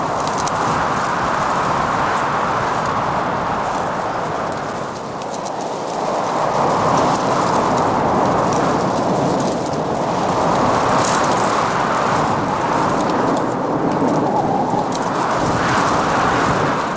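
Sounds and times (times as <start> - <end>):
faint crackles: 0.0 - 16.9
strong wind blowing: 0.0 - 16.9.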